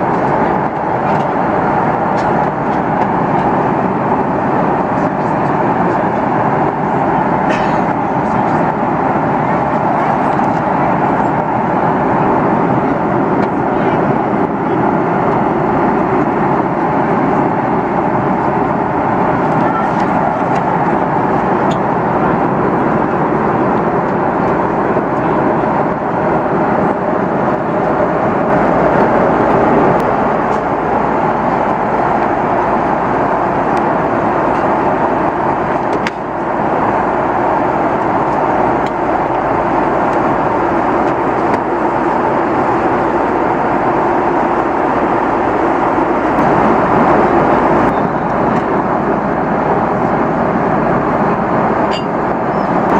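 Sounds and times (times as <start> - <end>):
airplane cabin engine rush: 0.0 - 52.9.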